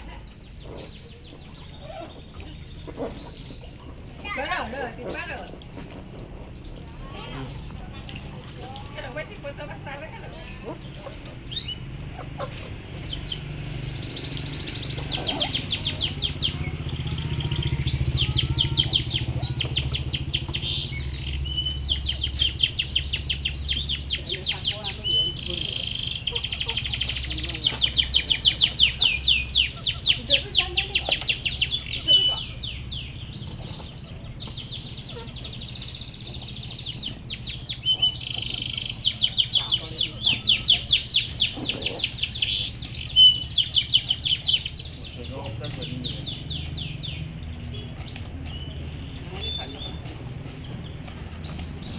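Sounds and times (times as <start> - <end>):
canary singing trills: 0.0 - 6.4, 7.0 - 51.9.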